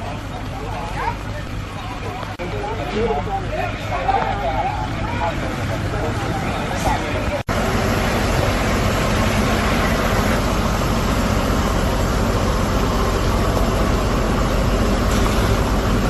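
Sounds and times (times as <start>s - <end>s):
fire truck engines and pumps: 0.0s - 16.0s.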